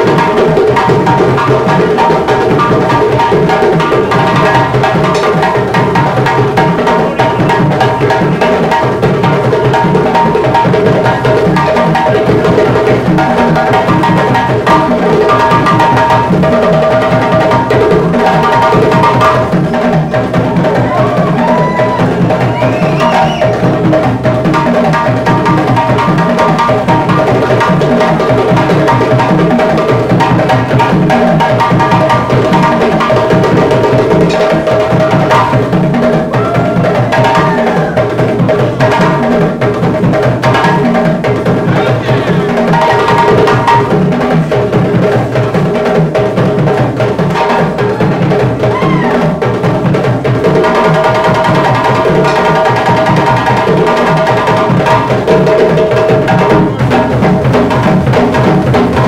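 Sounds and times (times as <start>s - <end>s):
hand drums playing rhythm: 0.0s - 59.0s.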